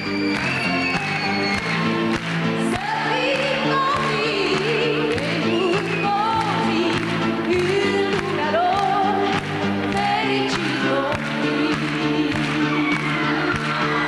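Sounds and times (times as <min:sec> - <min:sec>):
live pop band playing: 0:00.0 - 0:14.0
person singing: 0:02.7 - 0:14.0.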